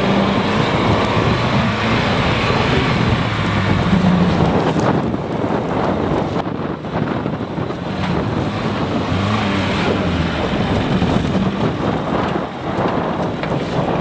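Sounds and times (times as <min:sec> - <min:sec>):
off-road vehicle engine under load: 0:00.0 - 0:14.0
wind buffeting microphone: 0:00.0 - 0:14.0.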